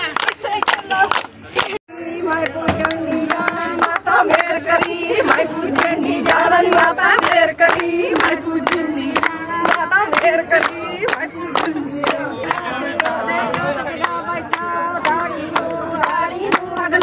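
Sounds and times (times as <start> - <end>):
hand-clapping beat: 0.1 - 17.0
women singing in chorus: 1.9 - 17.0.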